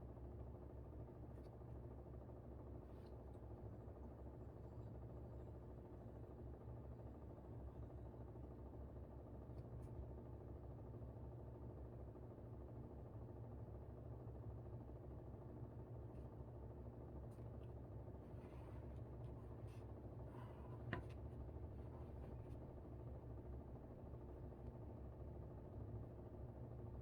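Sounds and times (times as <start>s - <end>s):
air conditioner humming: 0.0s - 27.0s.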